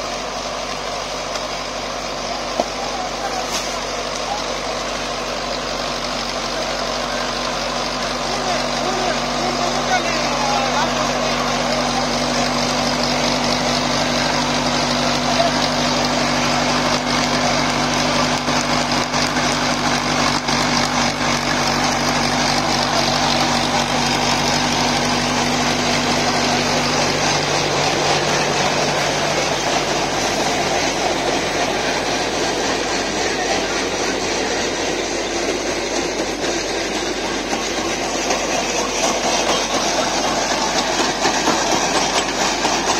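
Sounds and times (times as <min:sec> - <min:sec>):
rotavator churning soil: 0:00.0 - 0:42.9
tractor diesel engine running: 0:00.0 - 0:42.9.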